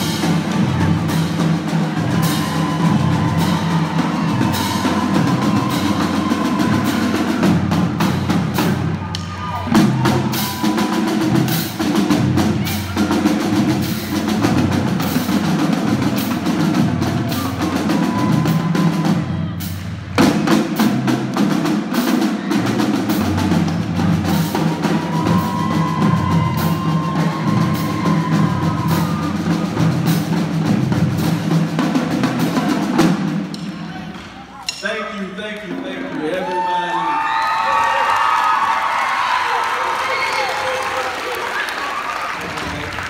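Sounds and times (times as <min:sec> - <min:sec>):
marching drumline playing: 0:00.0 - 0:35.8.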